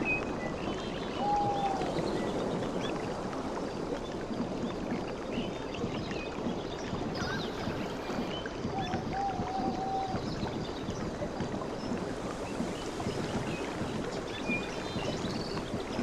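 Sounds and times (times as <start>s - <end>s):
sea waves washing: 0.6s - 16.0s.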